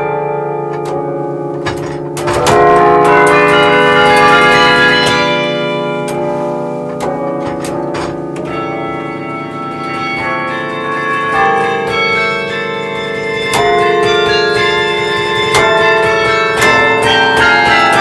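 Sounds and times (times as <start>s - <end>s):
carillon bells playing a tune: 0.0s - 18.0s.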